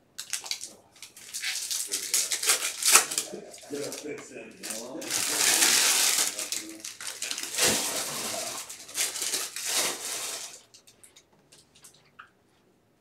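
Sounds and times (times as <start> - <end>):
cards and wrappers rustling: 0.2 - 11.2.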